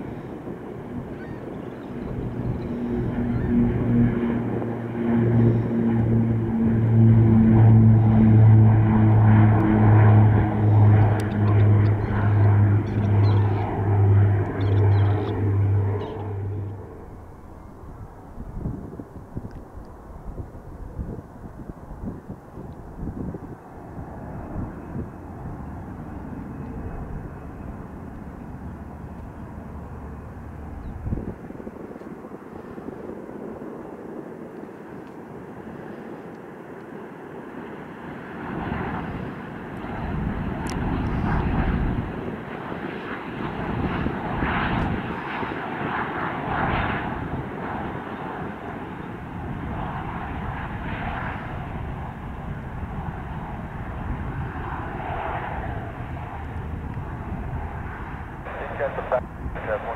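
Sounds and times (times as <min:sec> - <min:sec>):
jet engines landing: 0:00.0 - 0:59.9.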